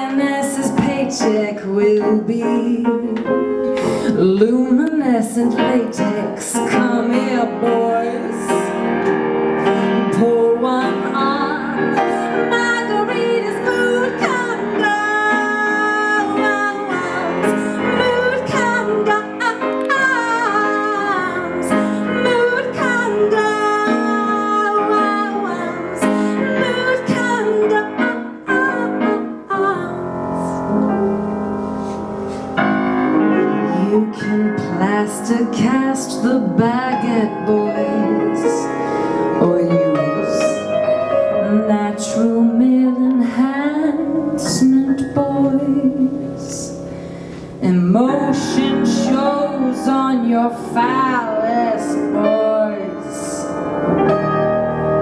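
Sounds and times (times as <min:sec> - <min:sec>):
woman singing: 0:00.0 - 0:09.0, 0:09.6 - 0:31.0, 0:33.6 - 0:46.9, 0:47.6 - 0:53.6
piano accompaniment: 0:00.0 - 0:55.0.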